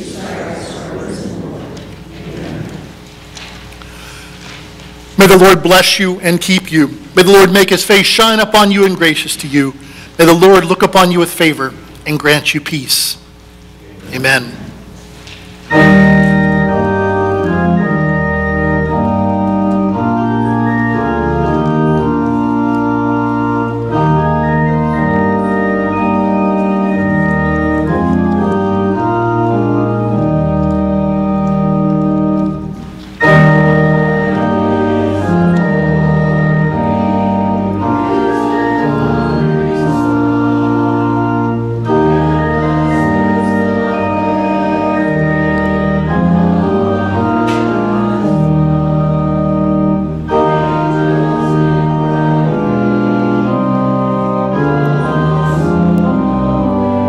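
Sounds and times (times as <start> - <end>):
church organ playing a hymn: 0.0 - 57.0.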